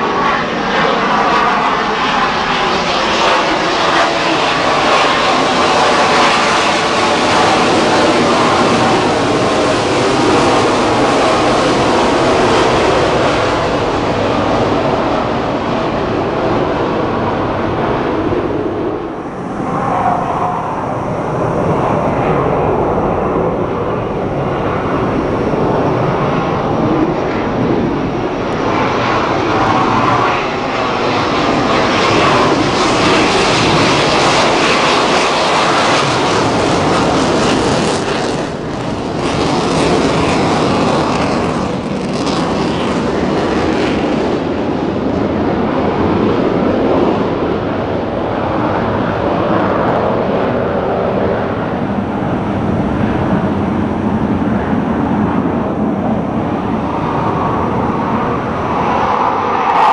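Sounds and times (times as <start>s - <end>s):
military jet roaring: 0.0s - 59.9s.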